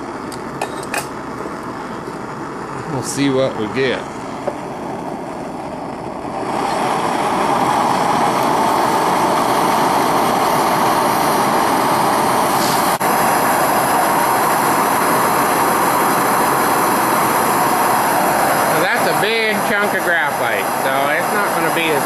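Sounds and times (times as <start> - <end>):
propane torch burner hissing: 0.0 - 22.0.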